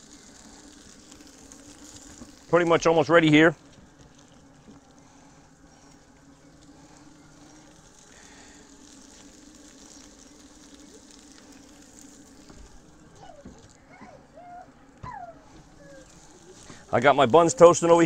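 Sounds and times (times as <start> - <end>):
patties sizzling on a griddle: 0.0 - 18.0.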